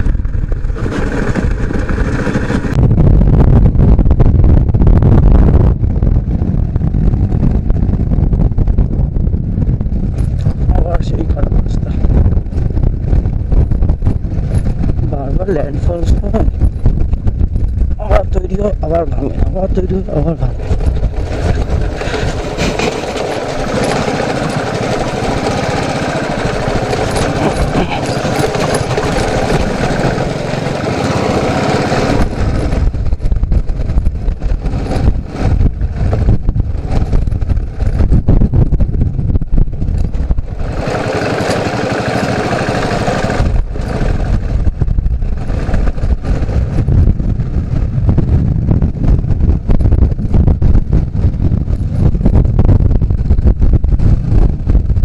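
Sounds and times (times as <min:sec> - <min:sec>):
motorcycle engine running: 0:00.0 - 0:55.0
road noise: 0:00.0 - 0:55.0
wind buffeting on microphone: 0:00.0 - 0:55.0.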